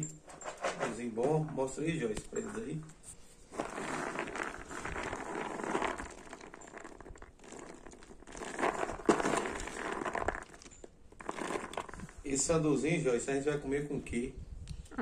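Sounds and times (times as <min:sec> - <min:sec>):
pea pods being shelled by hand: 0:00.0 - 0:12.6.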